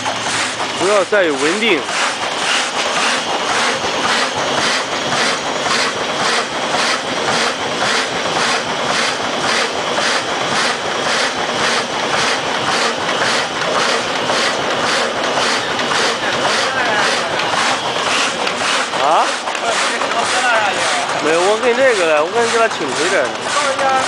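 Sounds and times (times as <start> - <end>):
cutter clacking: 0.0 - 24.0
paper cutting machine clatter: 0.0 - 24.0.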